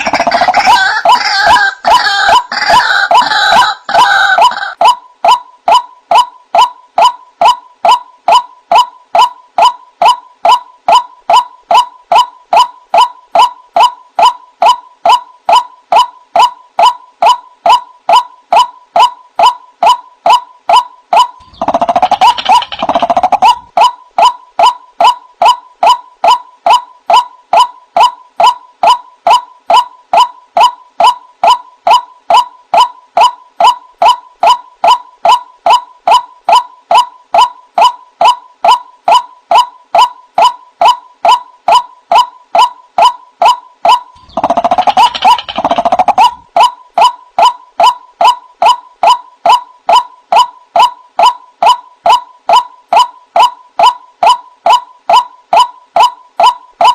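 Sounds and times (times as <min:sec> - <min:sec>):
harsh noisy bird calling: 0:00.0 - 0:56.9
waterhen kruak calls: 0:00.0 - 0:56.9.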